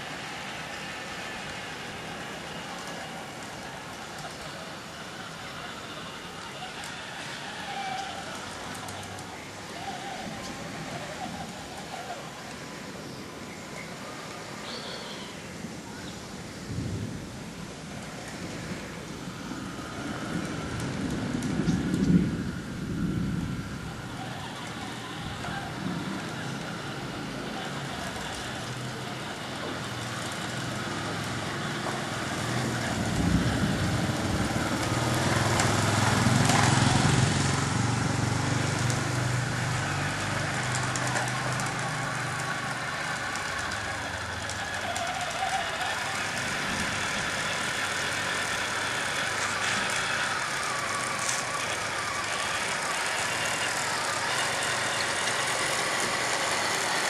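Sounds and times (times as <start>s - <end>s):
simulated tank engine sound: 0.0s - 14.6s, 17.8s - 57.0s.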